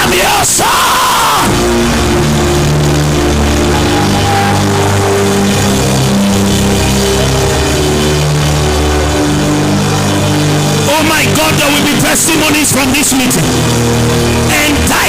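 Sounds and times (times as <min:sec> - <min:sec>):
live worship music: 0:00.0 - 0:15.0.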